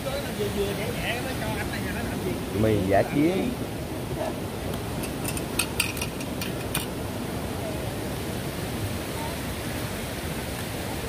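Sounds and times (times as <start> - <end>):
forest stream rushing: 0.0 - 11.0.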